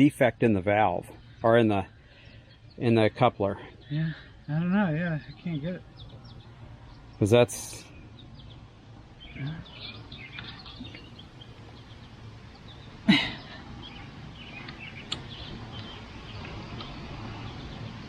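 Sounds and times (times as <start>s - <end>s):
birds chirping faintly: 0.0s - 18.0s
outdoor background noise: 0.0s - 18.0s.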